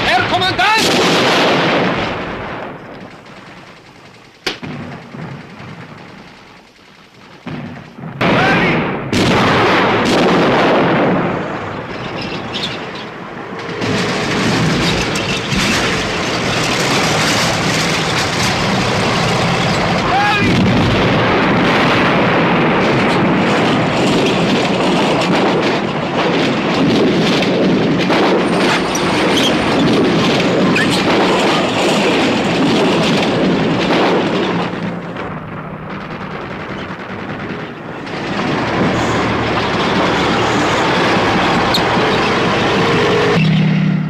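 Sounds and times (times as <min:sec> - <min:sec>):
explosions: 0:00.0 - 0:03.5, 0:04.4 - 0:06.5, 0:07.2 - 0:43.9
gunfire: 0:00.0 - 0:43.3
tank tracks clattering: 0:01.9 - 0:08.0, 0:11.4 - 0:21.1, 0:22.8 - 0:43.5.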